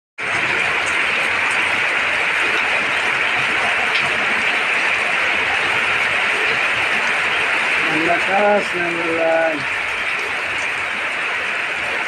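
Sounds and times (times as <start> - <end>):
heavy rain pouring: 0.2 - 12.0.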